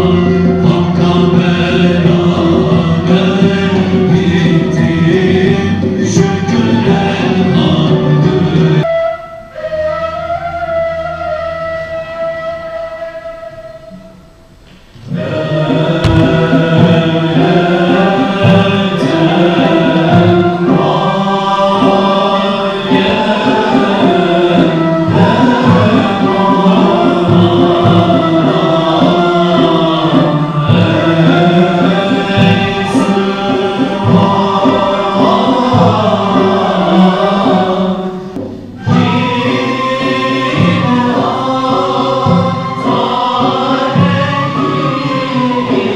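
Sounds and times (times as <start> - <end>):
chorus chanting a hymn: 0.0 - 8.9, 14.9 - 45.9.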